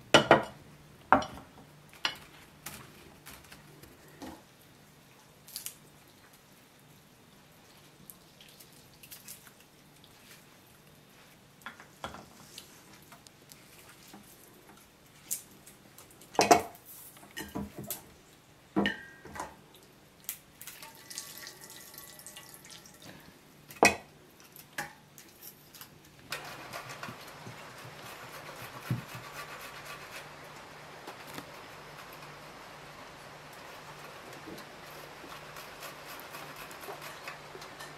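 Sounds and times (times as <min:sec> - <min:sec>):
steady soft hiss: 0:00.0 - 0:37.9.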